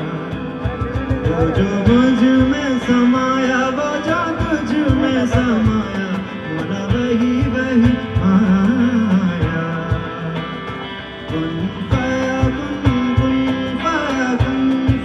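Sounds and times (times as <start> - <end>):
keyboard: 0.0 - 15.0
percussion: 0.0 - 15.0
strummed acoustic guitars: 0.0 - 15.0.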